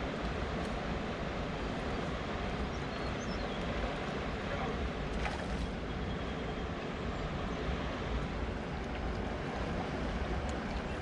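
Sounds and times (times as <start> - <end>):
water churning below dam: 0.0 - 11.0.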